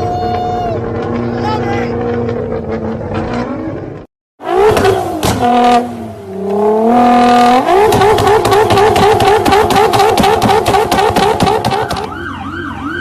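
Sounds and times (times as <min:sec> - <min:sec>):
car exhaust revving: 0:00.3 - 0:12.2.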